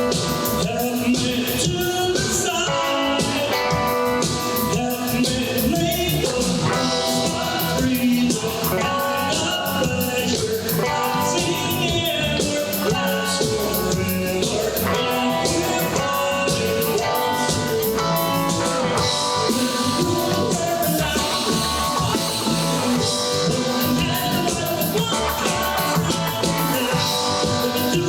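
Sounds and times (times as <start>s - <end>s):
drum kit beat: 0.0s - 28.0s
electric guitar: 0.0s - 28.0s
rock band playing live: 0.0s - 28.0s.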